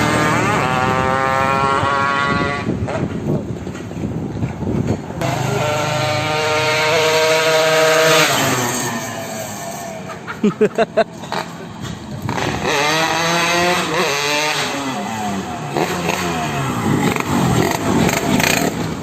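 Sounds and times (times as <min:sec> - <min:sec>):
motorcycle engine revving: 0:00.0 - 0:03.4, 0:05.2 - 0:10.3, 0:11.2 - 0:19.0.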